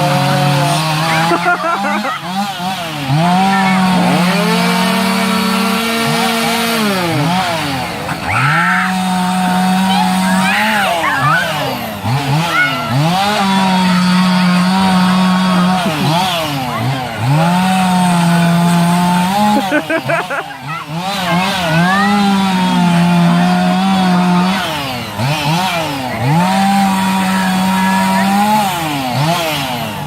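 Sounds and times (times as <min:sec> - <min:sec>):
chainsaw engine revving: 0:00.0 - 0:30.0.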